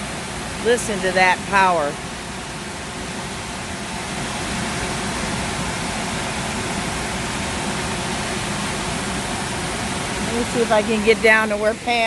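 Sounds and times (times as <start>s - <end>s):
waterfall roaring onto rock: 0.0s - 12.0s.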